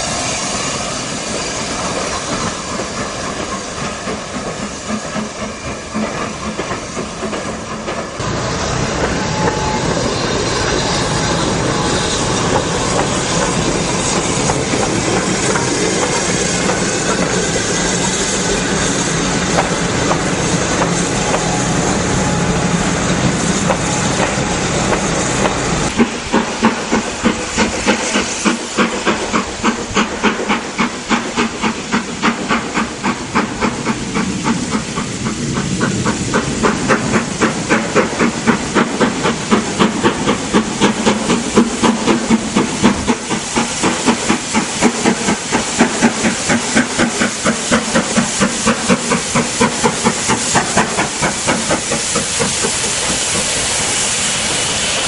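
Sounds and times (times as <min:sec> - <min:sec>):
steam hissing: 0:00.0 - 0:55.0
steam locomotive chuffing: 0:00.0 - 0:55.0.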